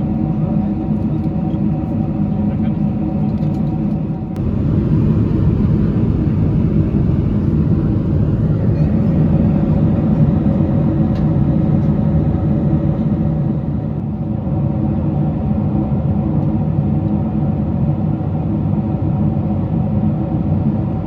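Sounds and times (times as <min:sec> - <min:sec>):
airliner cabin drone: 0:00.0 - 0:21.0.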